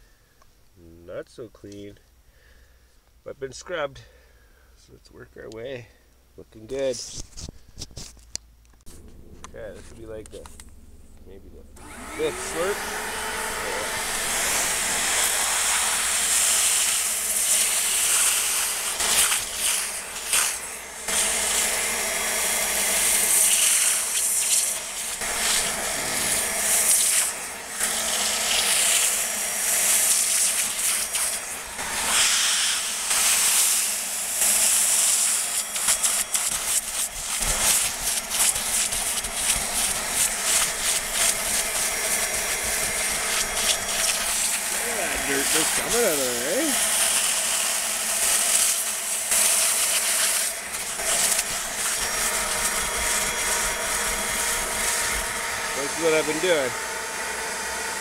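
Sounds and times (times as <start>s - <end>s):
upholstery cleaner suction motor: 11.4s - 58.0s.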